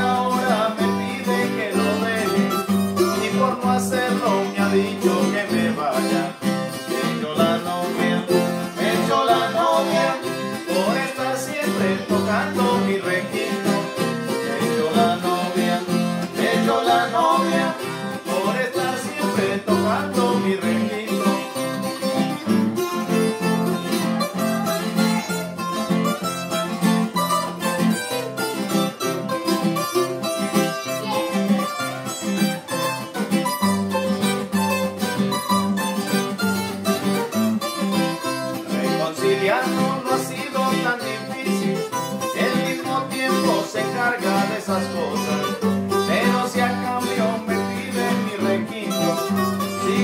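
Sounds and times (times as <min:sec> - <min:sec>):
nylon-string guitar rhythm: 0:00.0 - 0:50.0
steel-string guitar picking melody: 0:00.0 - 0:50.0.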